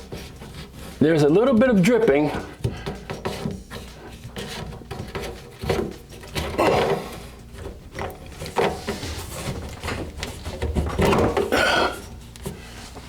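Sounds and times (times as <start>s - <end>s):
plastic drain pipe scraping and knocking: 0.0s - 13.0s.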